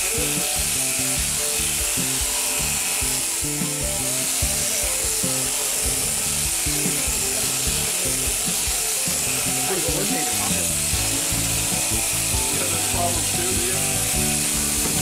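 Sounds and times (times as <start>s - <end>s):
background music: 0.0s - 15.0s
shearing handpiece buzzing: 0.0s - 15.0s.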